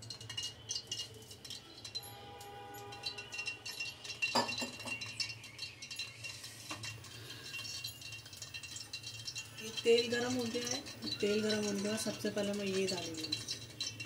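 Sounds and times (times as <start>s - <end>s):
spoon clinking on metal pot: 0.0s - 14.0s.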